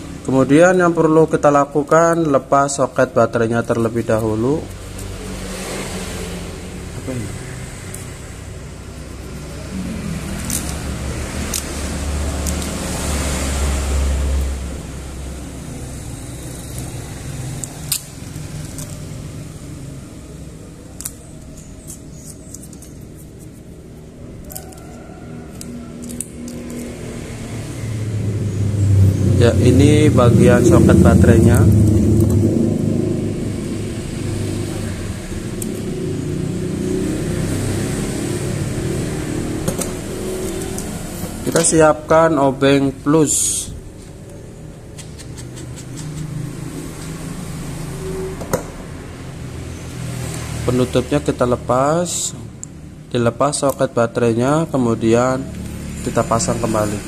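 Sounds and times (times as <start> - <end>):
vehicle passing with low rumble: 0.0 - 57.0
engine humming: 2.8 - 53.4.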